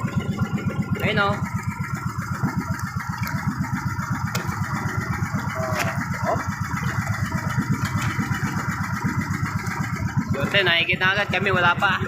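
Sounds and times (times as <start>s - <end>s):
small boat engine chugging: 0.0s - 12.0s.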